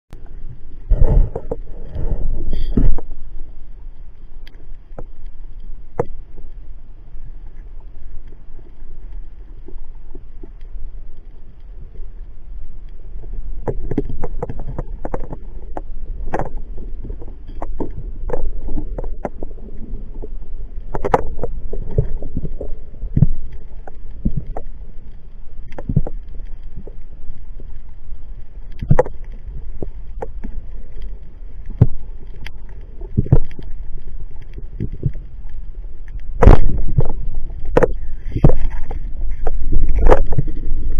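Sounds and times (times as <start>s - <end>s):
muffled underwater rumble: 0.1s - 40.9s.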